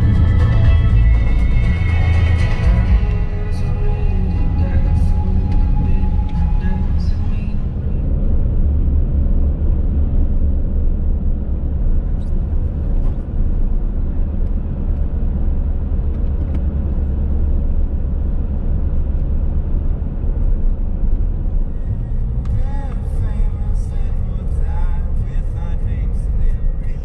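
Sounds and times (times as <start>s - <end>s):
car cabin road rumble: 0.0s - 27.0s.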